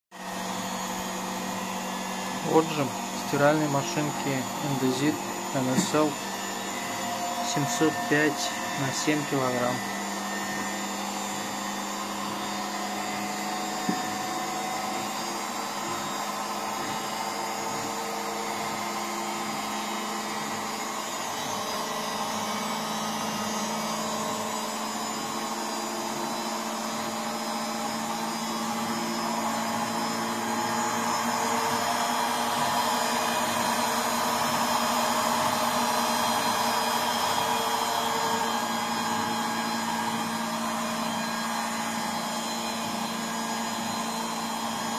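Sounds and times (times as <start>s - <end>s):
washing machine spinning: 0.1s - 44.9s.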